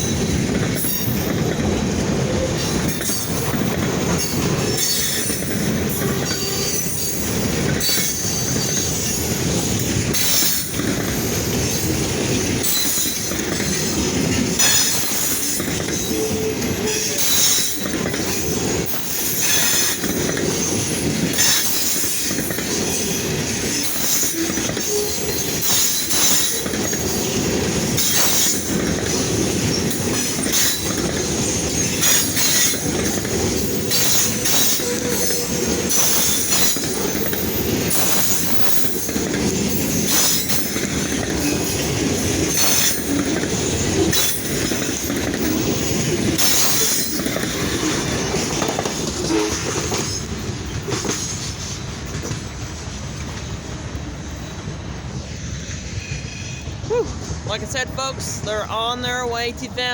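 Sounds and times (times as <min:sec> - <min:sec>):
wheels squealing against rail: 0:00.0 - 0:53.6, 0:54.3 - 0:57.4
train cars rumbling and clattering: 0:00.0 - 0:59.9.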